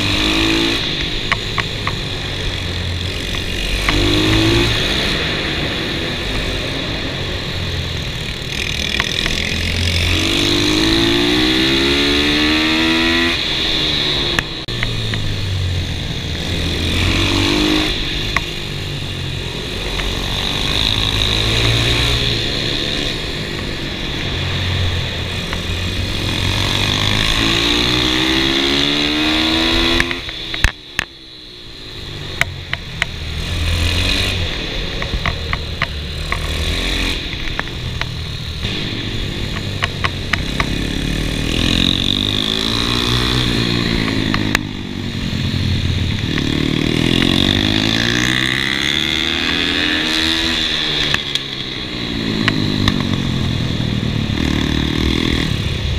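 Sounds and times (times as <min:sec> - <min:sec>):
pit bike engine revving: 0:00.0 - 0:30.8, 0:32.3 - 0:55.9.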